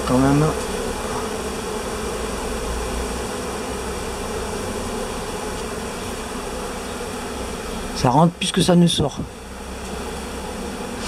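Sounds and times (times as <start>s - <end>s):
bee swarm buzzing: 0.0s - 11.0s.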